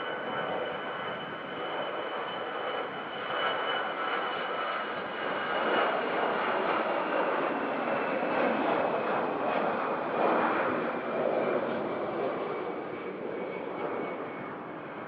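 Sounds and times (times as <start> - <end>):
jet engines running with whine: 0.0 - 15.0.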